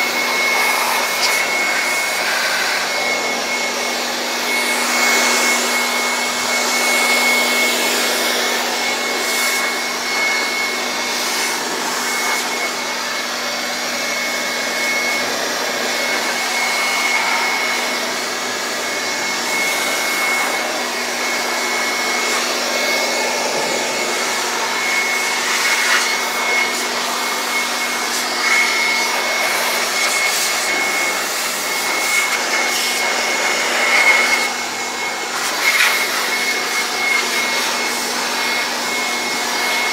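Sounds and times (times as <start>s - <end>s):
electric dust blower running: 0.0s - 39.9s.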